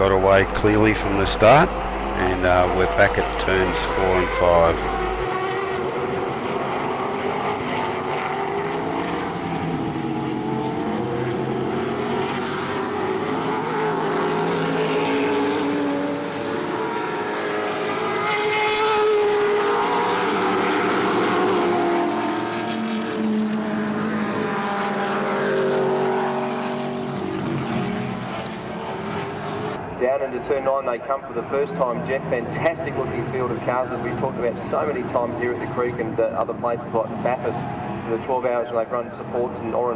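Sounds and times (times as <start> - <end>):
race cars passing: 0.0 - 39.9.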